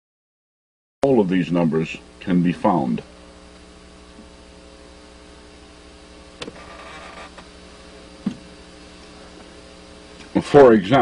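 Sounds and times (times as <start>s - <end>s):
low electrical hum: 1.0s - 11.0s.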